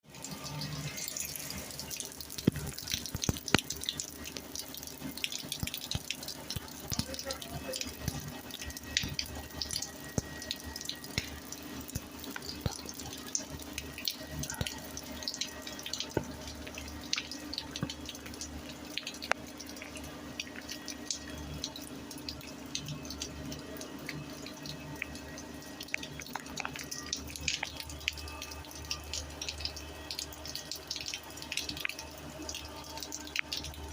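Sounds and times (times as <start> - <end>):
drops splashing and dripping: 0.1 - 33.9
low steady hum: 0.1 - 33.9
rain falling on concrete: 0.1 - 33.9.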